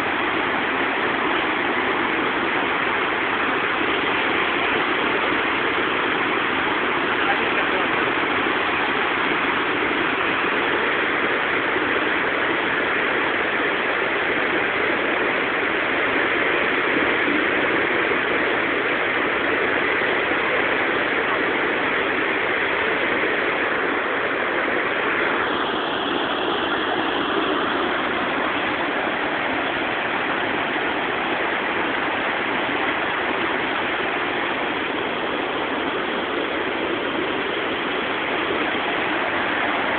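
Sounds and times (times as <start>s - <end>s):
whitewater rushing over rocks: 0.0s - 39.9s.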